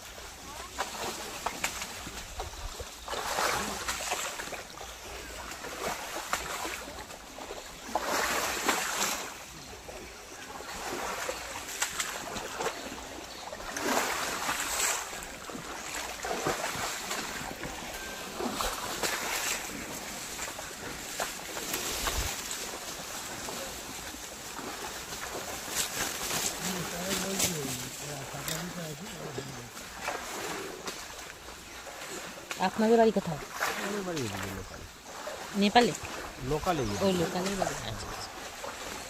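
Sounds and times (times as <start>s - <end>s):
leafy branches rustling: 0.0s - 39.0s
water sloshing and splashing: 0.0s - 39.0s.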